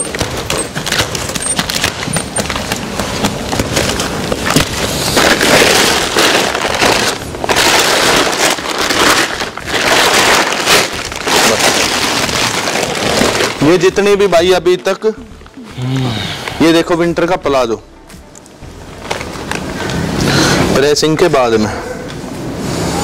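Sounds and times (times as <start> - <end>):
plastic wrapping crinkling and tearing: 0.0 - 17.0, 18.4 - 20.9.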